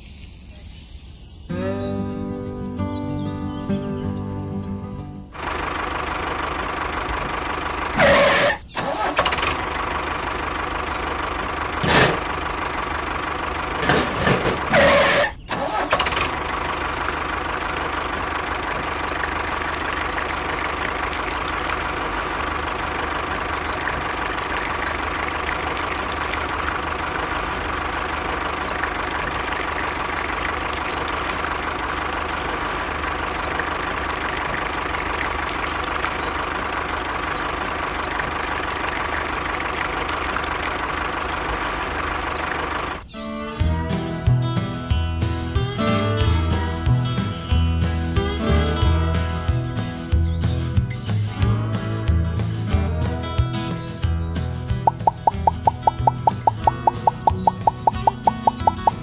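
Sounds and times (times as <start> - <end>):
tractor engine running: 4.0 - 59.0.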